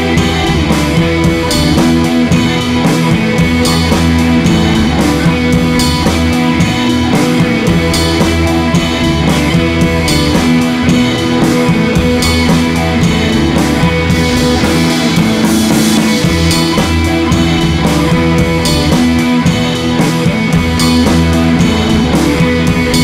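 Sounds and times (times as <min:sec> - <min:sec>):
rock music with guitar and drums: 0:00.0 - 0:23.0.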